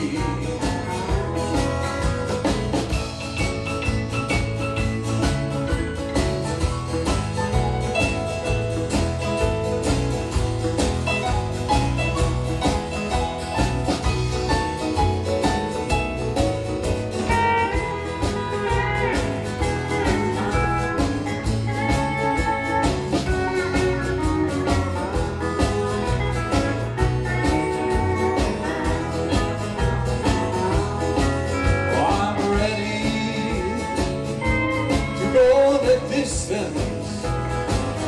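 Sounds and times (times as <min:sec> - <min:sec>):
live country band playing: 0:00.0 - 0:38.0.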